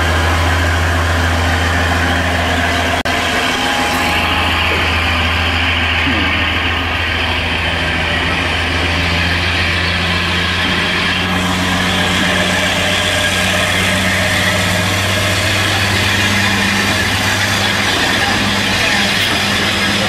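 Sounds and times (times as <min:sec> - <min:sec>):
diesel locomotive engines running: 0:00.0 - 0:20.0.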